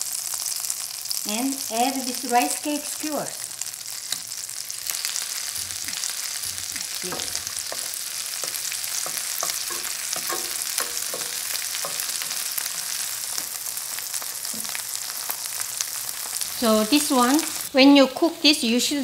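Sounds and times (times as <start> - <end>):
butter sizzling in a skillet: 0.0 - 17.8.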